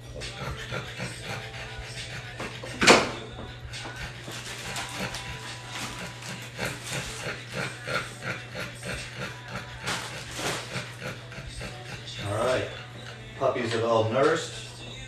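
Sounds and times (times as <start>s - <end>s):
dogs grunting and snuffling: 0.0s - 15.0s.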